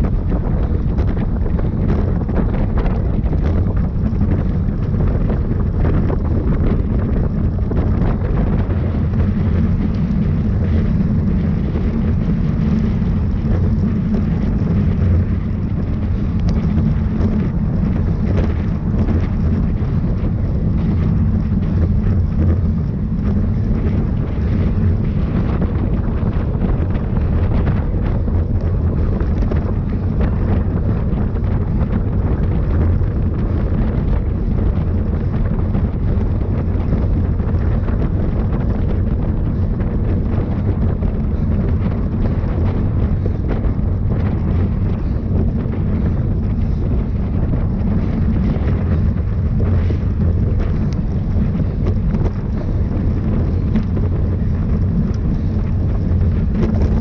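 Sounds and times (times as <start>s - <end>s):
wind noise on microphone: 0.0s - 57.0s.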